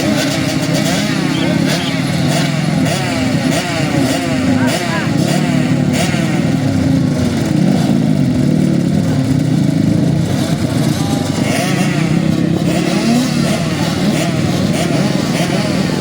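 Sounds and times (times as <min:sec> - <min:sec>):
motocross bikes revving: 0:00.0 - 0:16.0.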